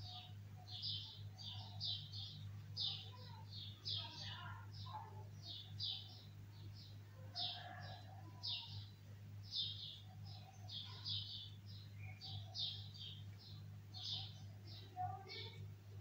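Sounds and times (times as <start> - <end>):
bird chirping: 0.0 - 15.7.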